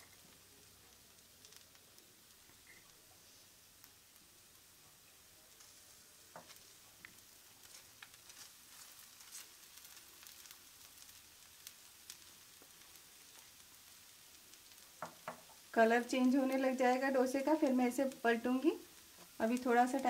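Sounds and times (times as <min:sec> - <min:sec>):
faint sizzling of frying batter: 0:00.0 - 0:20.0
small crackles: 0:00.0 - 0:20.0.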